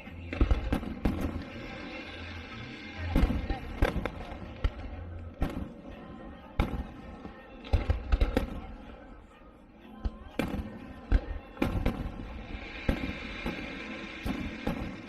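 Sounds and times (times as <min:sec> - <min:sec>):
fireworks bursting: 0:00.0 - 0:09.0, 0:10.1 - 0:15.0.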